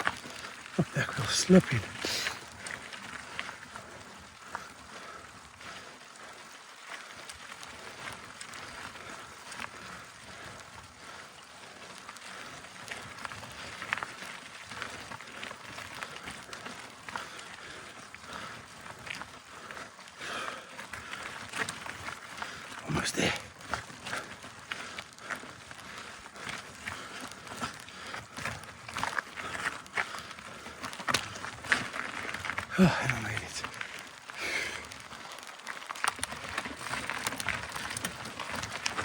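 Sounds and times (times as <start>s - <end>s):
bike tyres crunching on dirt: 0.0s - 39.0s.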